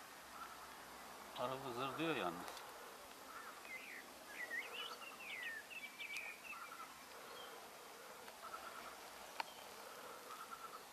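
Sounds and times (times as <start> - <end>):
songbird chirping: 0.0 - 10.9
bees buzzing: 0.1 - 10.9.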